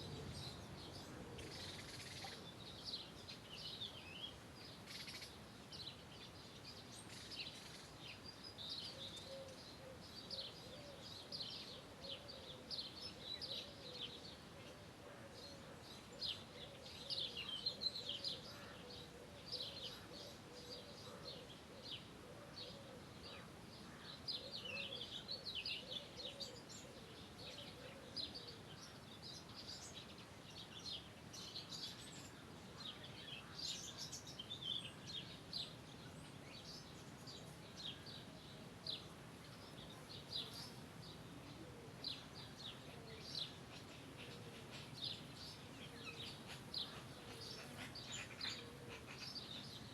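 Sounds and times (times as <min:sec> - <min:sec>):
outdoor ambient hiss: 0:00.0 - 0:49.9
songbirds chirping and trilling: 0:00.0 - 0:49.9.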